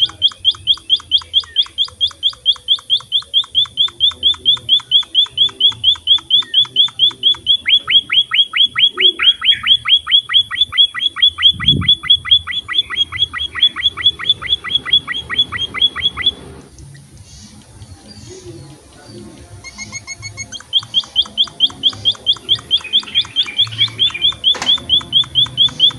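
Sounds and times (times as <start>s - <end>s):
finch chirping: 0.0s - 16.5s, 17.3s - 25.9s.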